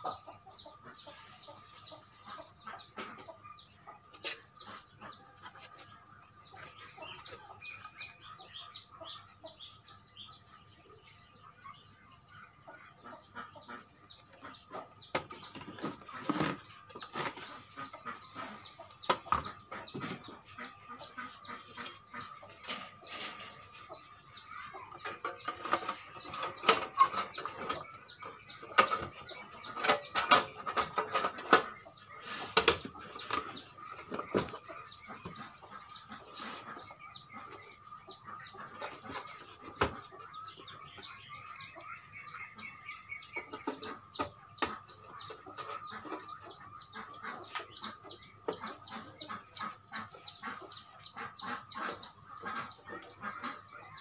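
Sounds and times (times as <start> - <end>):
birds calling: 0.0 - 54.0.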